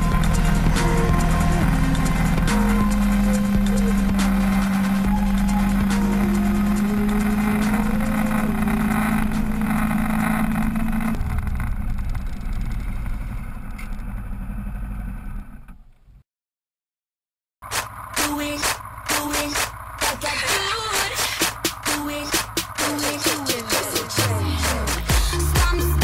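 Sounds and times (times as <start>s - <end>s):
motorcycle engine running: 0.0s - 15.8s, 17.6s - 26.0s.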